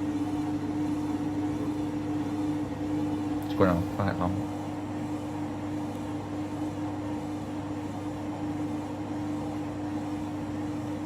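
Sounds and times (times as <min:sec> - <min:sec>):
washing machine motor humming: 0:00.0 - 0:11.0.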